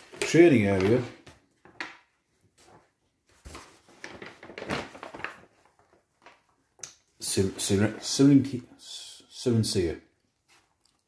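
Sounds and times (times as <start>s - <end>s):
paper map rustling: 0.0s - 8.6s, 10.2s - 10.8s.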